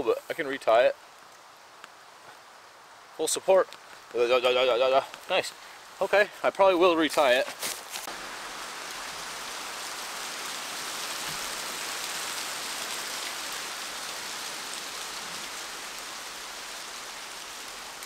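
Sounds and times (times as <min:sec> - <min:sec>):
pouring rain: 0:00.0 - 0:18.0.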